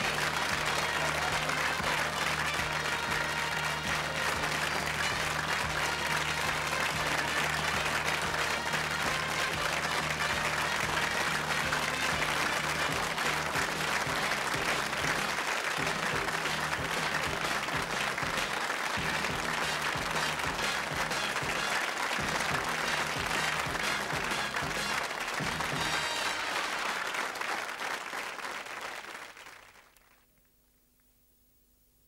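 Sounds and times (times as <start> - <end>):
sitcom theme music: 0.0 - 27.3
studio audience applauding: 0.0 - 30.4.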